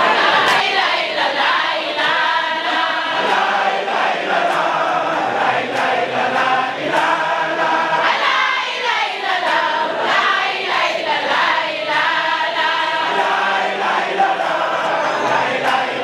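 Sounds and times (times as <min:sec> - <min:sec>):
women's chorus chanting: 0:00.0 - 0:16.0.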